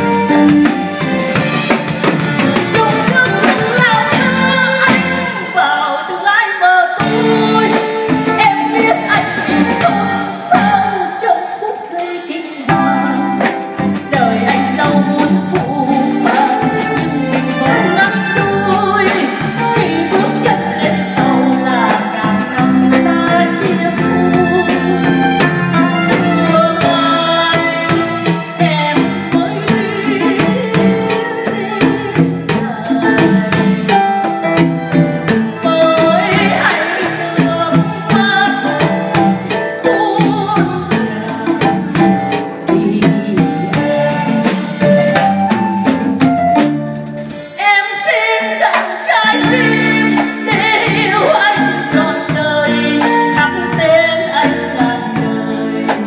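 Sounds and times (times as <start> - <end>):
band playing: 0.0 - 56.0
woman singing into microphone: 2.2 - 46.4, 47.5 - 56.0.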